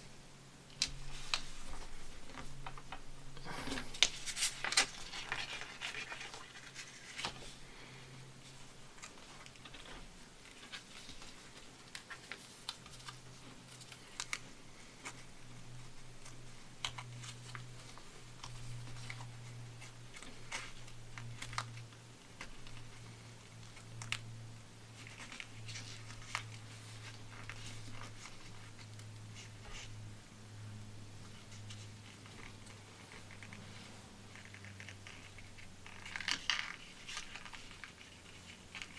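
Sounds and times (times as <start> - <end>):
paper rustling as folded: 0.8 - 24.3, 24.9 - 30.1, 31.2 - 38.9.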